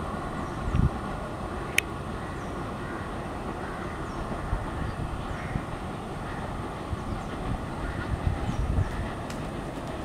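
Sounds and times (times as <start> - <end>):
train coaches rumbling on rails: 0.0 - 10.0
wind buffeting microphone: 0.0 - 10.0.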